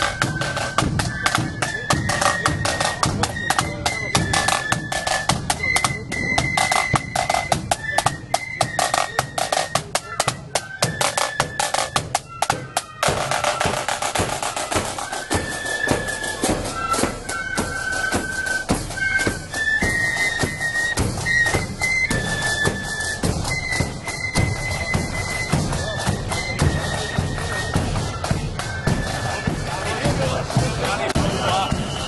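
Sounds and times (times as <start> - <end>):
fast snare drumming: 0.0 - 32.0
shrill flute melody: 0.0 - 32.0.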